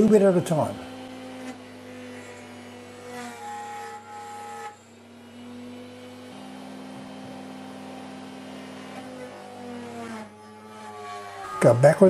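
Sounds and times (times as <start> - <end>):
high motor whine: 0.0 - 12.0
router motor humming: 0.0 - 12.0.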